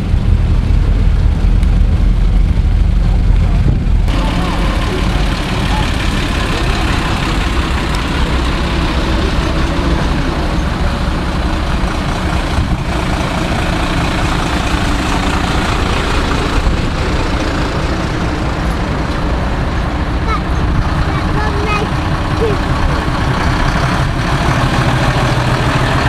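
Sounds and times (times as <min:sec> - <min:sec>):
diesel engines rumbling: 0:00.0 - 0:26.0.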